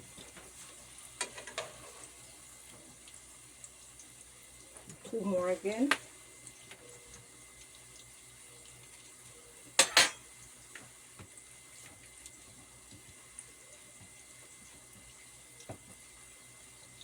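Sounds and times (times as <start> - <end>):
plantain frying in hot oil: 0.0 - 17.0.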